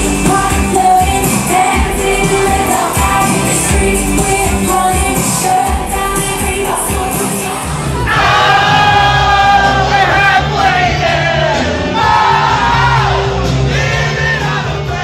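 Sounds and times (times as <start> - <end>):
club music with sung vocal: 0.0 - 15.0
crowd shouting and cheering: 0.0 - 15.0.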